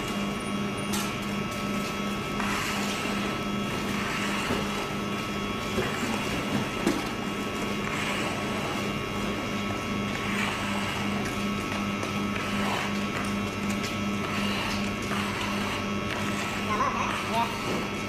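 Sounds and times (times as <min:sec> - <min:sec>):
pulsing machine hum: 0:00.0 - 0:18.0.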